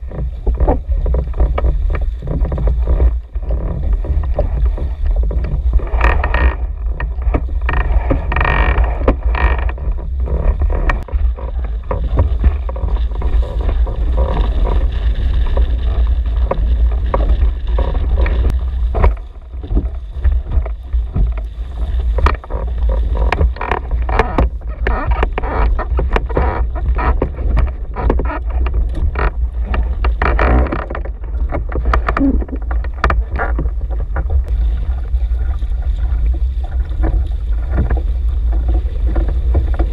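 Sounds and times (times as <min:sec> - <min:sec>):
water splashing against hull: 0:00.0 - 0:39.9
wind rumble on microphone: 0:00.0 - 0:39.9.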